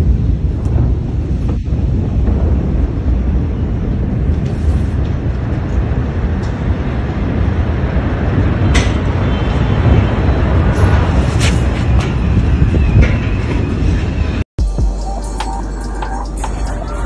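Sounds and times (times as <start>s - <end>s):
explosion rumbling roar: 0.0s - 14.4s.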